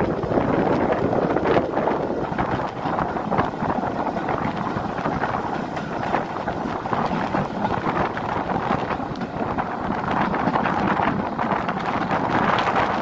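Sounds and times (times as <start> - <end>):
train wheels rumbling on track: 0.0 - 13.0
wind rushing over microphone: 0.0 - 13.0.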